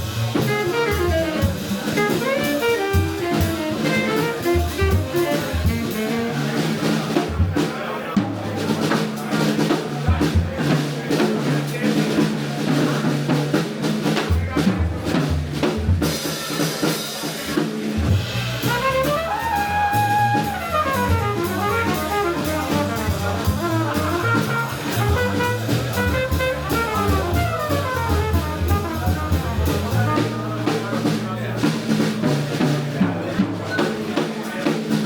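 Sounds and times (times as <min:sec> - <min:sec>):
drum kit cymbals and drums: 0:00.0 - 0:35.0
jazz band playing: 0:00.0 - 0:35.0.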